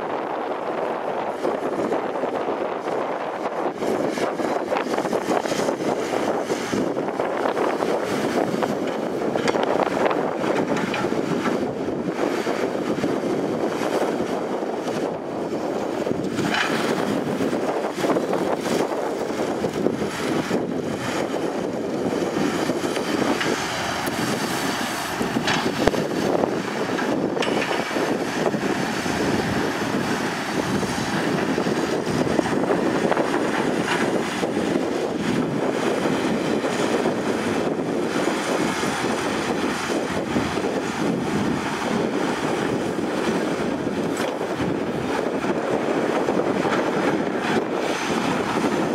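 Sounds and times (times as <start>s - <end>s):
excavator diesel engine running: 0.1s - 48.9s.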